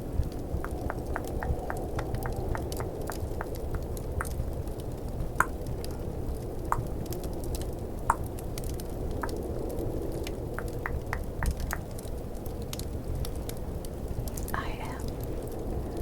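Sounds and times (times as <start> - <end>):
fireplace crackling: 0.0 - 16.0
snowstorm wind: 0.0 - 16.0.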